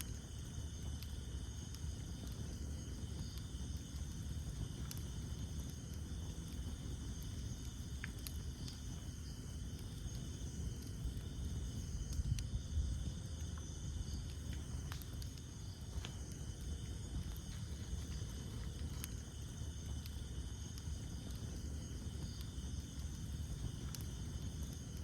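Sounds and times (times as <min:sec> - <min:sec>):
campfire crackling: 0:00.0 - 0:25.0
insects chorus: 0:00.0 - 0:25.0
sharp pops of fire: 0:00.0 - 0:25.0.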